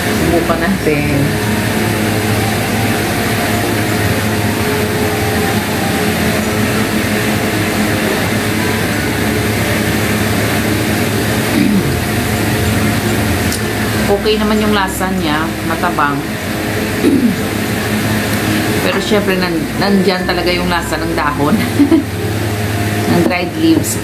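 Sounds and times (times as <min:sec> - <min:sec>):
electric fan running: 0:00.0 - 0:24.0.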